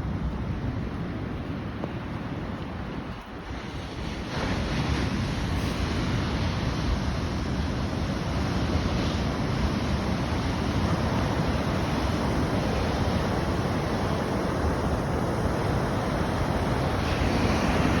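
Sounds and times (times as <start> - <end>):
wind buffeting microphone: 0.0 - 18.0
surf breaking on beach: 3.4 - 18.0.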